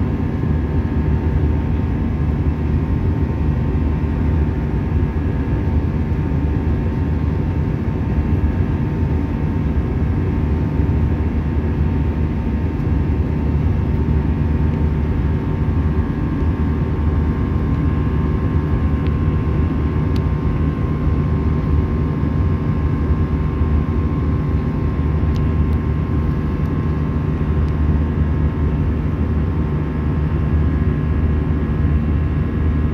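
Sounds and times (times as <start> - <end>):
jet engine cabin drone: 0.0 - 32.9.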